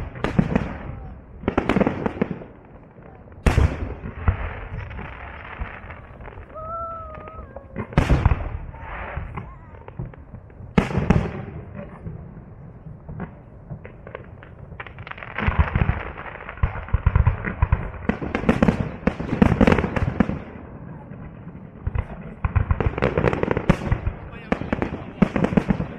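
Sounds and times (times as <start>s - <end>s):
rapid crackling fireworks: 0.0s - 25.9s.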